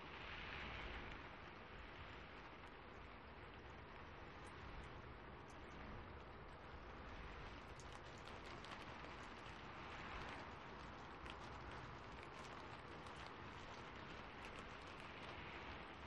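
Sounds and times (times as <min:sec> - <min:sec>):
steady rain: 0:00.0 - 0:16.0
fireplace crackling: 0:00.1 - 0:16.0.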